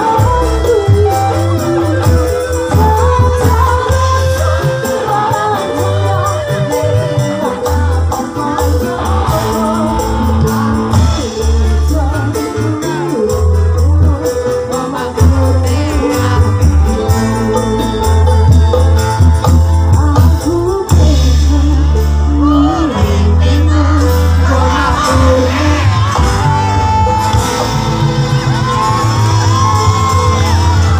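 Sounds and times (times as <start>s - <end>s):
woman singing: 0.0s - 18.7s, 19.8s - 27.1s
live band playing: 0.0s - 30.9s
steady bass line: 0.0s - 30.9s.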